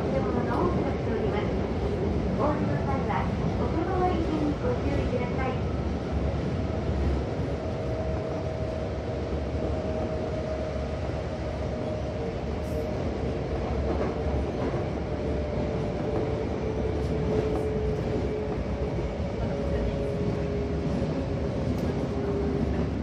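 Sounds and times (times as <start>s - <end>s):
subway wheels rumbling: 0.0s - 23.0s.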